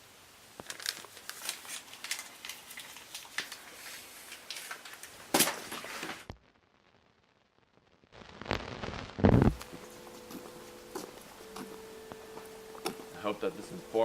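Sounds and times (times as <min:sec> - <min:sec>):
irregular clicking and crackling: 0:00.5 - 0:06.4, 0:08.1 - 0:13.4.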